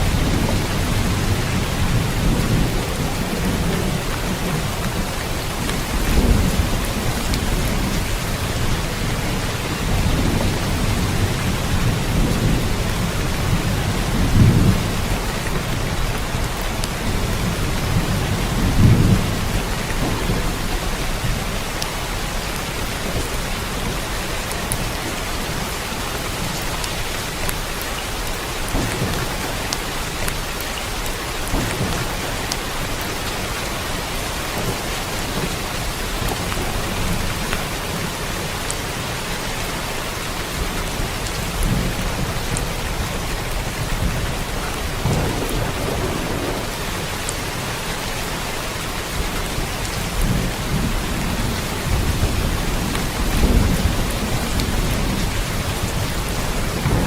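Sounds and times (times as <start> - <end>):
distant thunder rumbles: 0.0 - 27.6, 28.2 - 38.3, 40.5 - 57.0
steady rain falling: 0.0 - 57.0.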